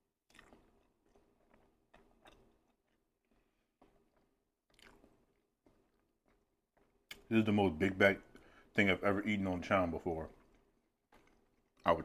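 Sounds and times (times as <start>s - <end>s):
chewing and wet mouth sounds: 0.0s - 12.0s.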